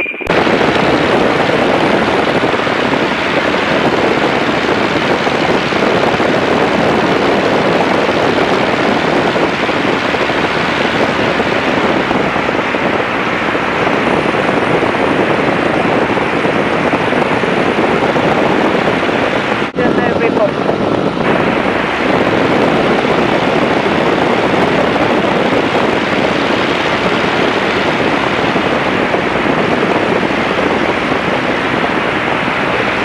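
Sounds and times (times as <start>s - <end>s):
aircraft engine droning: 0.0s - 33.0s
slipstream wind noise: 0.0s - 33.0s.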